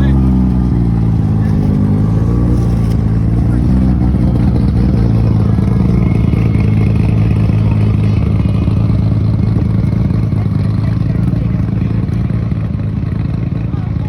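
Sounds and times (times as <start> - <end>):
vehicle engine low hum: 0.0 - 14.0.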